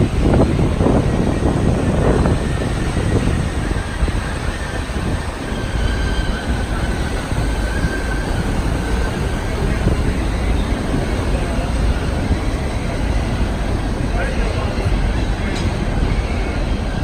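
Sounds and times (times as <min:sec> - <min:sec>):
train rumbling on rails: 0:00.0 - 0:17.0
wheels squealing: 0:00.0 - 0:17.0
wind on microphone: 0:00.0 - 0:17.0.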